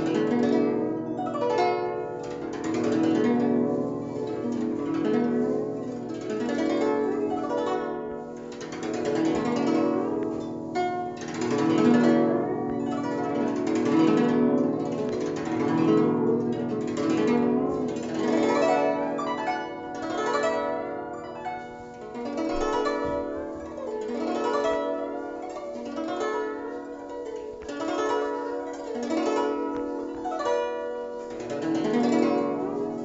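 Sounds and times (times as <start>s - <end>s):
plucked zither notes: 0.0s - 33.0s.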